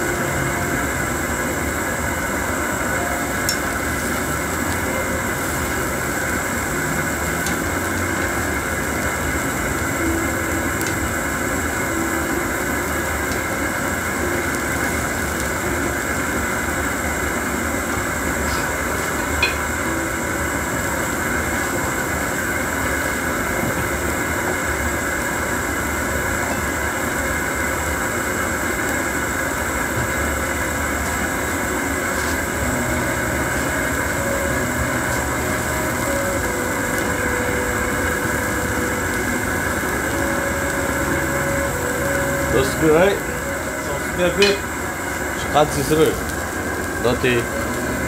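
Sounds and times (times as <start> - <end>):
gas burner rushing: 0.0 - 48.0
soup simmering: 0.0 - 48.0.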